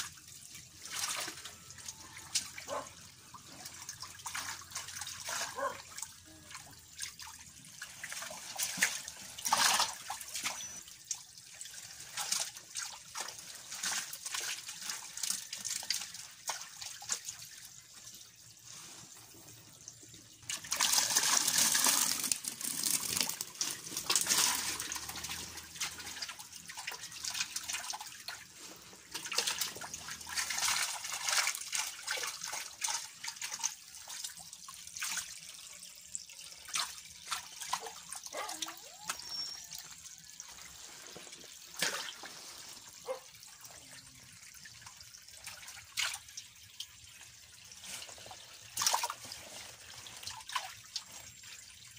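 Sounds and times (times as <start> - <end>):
pond water splashing: 0.0 - 51.9
water gushing into bucket: 0.0 - 51.9.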